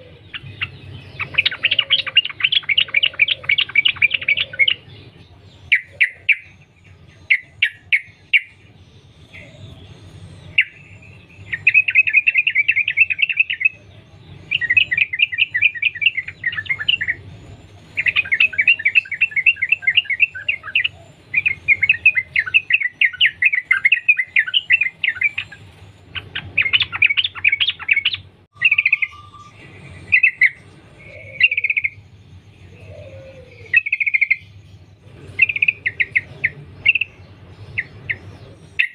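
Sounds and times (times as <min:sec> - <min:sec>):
bird singing rapid chattering notes: 0:00.0 - 0:38.9.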